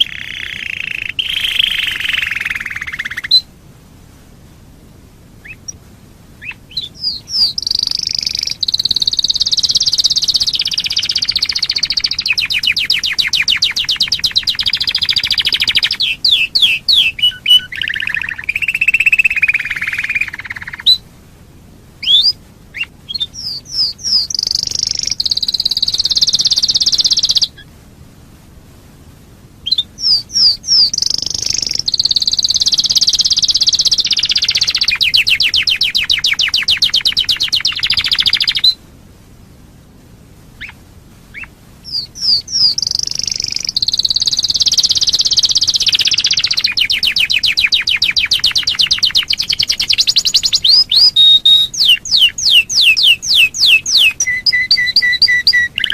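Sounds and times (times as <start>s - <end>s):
canary singing: 0.0s - 3.5s, 5.4s - 5.8s, 6.4s - 21.1s, 22.0s - 27.7s, 29.6s - 38.8s, 40.6s - 55.9s.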